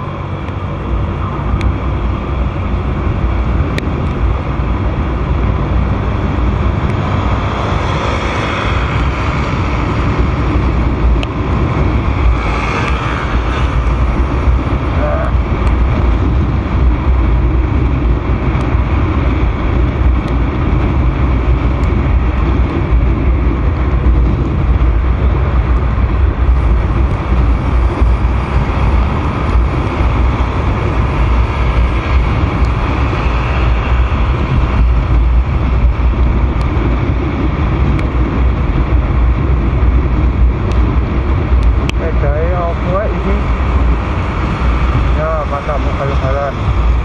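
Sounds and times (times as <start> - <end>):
scooter engine and road noise: 0.0 - 47.0
wind rush on microphone: 0.0 - 47.0.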